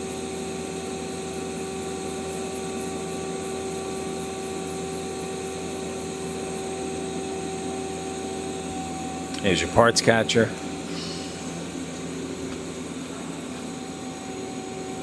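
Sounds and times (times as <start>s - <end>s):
machine hum with whine: 0.0s - 15.0s.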